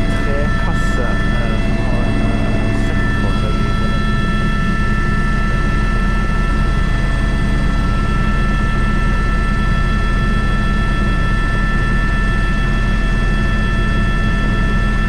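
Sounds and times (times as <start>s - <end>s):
helicopter rotor drone: 0.0s - 15.0s
high-pitched turbine whine: 0.0s - 15.0s.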